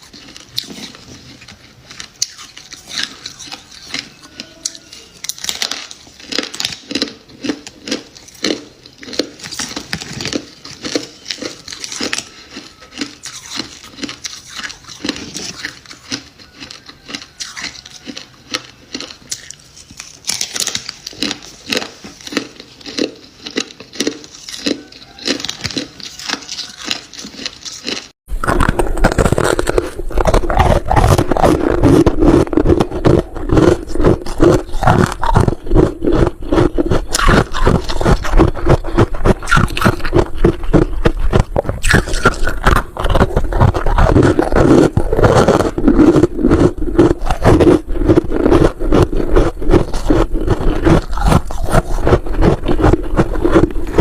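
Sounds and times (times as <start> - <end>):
crunching and chewing frost: 0.0 - 54.0.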